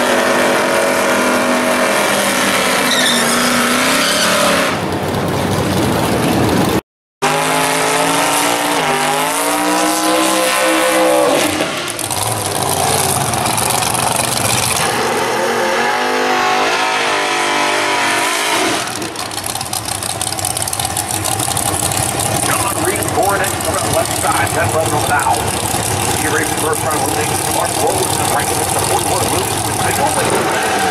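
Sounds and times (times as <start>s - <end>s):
car engine revving: 0.0s - 30.9s
car pulling away: 0.0s - 30.9s.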